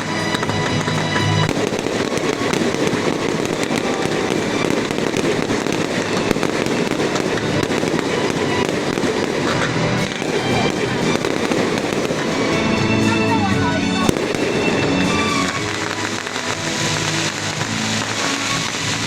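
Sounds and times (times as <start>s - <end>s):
fireworks bursting and crackling: 0.0s - 19.0s
music playing: 0.0s - 19.0s.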